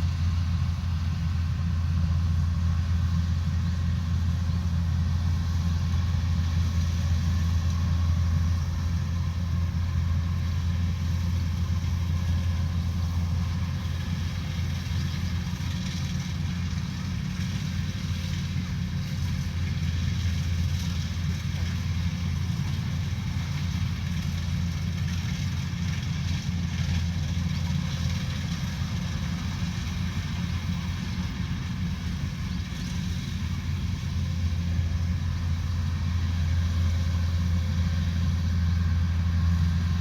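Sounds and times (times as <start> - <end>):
combine harvester engine humming: 0.0 - 40.0.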